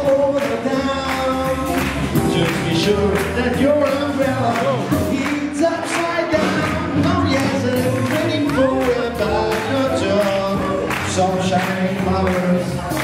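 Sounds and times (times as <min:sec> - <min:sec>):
crowd clapping along: 0:00.0 - 0:13.0
person singing: 0:00.0 - 0:13.0
swing band playing: 0:00.0 - 0:13.0.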